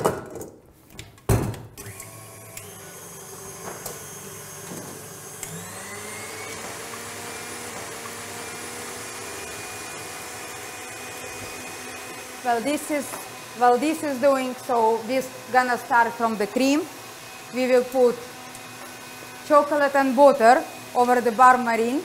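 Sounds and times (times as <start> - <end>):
stand mixer motor whine: 1.8 - 22.0.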